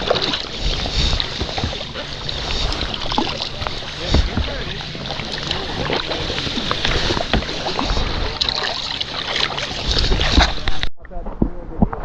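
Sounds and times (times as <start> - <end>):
water sloshing around kayak: 0.0 - 10.9
sharp splashes or knocks: 0.0 - 12.0
wind on microphone: 0.0 - 12.0.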